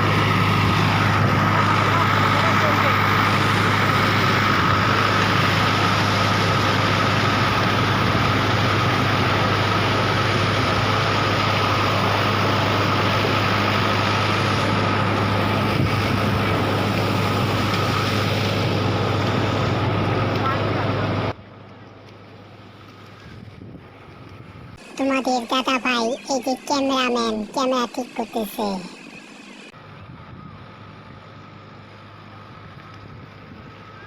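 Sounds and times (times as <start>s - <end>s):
engine running steadily: 0.0s - 26.0s, 29.0s - 34.0s.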